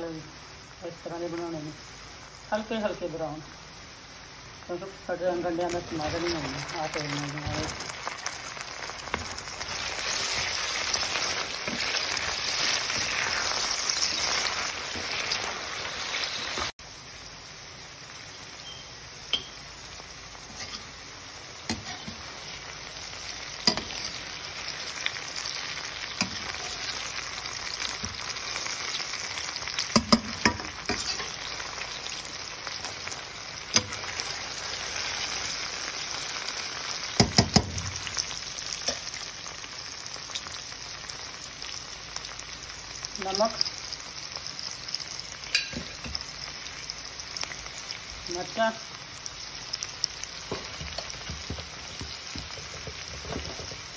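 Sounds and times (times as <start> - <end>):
okra sizzling in a pan: 0.0 - 53.9.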